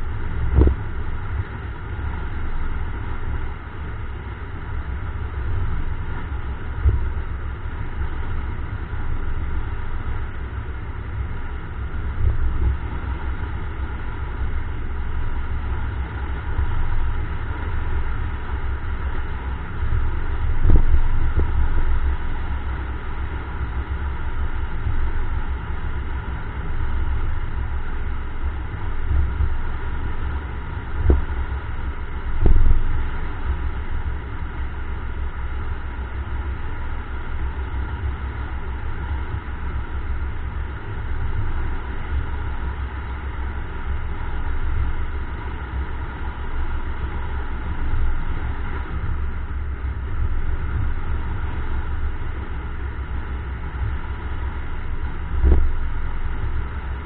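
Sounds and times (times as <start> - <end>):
car wind and road noise: 0.0 - 57.0.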